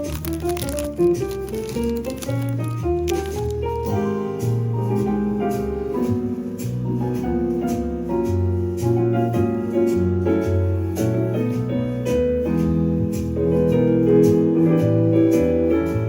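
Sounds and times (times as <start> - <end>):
light steady beat: 0.0 - 16.0
piano chords: 0.0 - 16.0.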